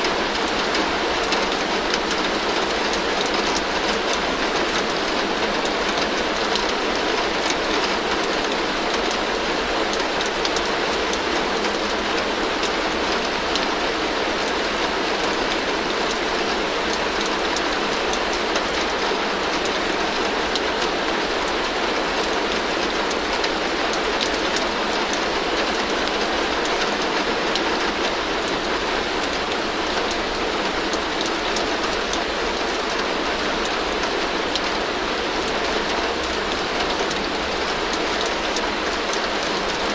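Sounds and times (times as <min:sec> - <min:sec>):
heavy rain on a tin roof: 0:00.0 - 0:39.9
water streaming off roof: 0:00.0 - 0:39.9.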